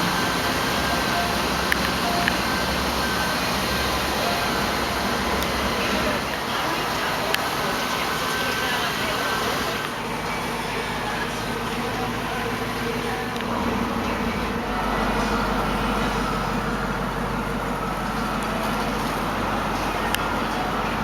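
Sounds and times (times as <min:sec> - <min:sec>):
car engine idling rumble: 0:00.0 - 0:21.0.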